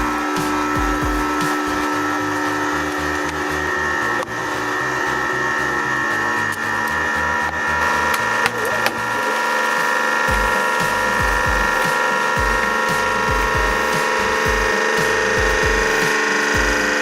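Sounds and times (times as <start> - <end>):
background music with bass line: 0.0 - 17.0
hydraulic pump motor whining: 0.0 - 17.0.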